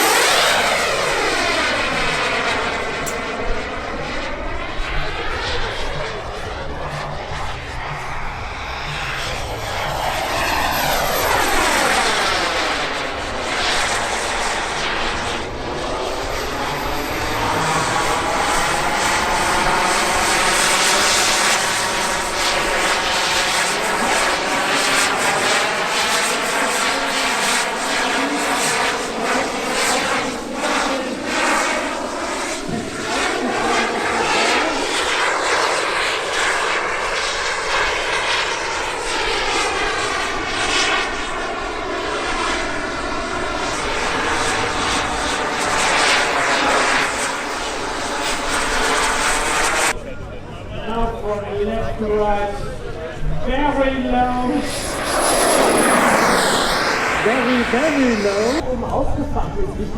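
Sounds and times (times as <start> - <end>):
model aeroplane engine and propeller: 0.0 - 59.9.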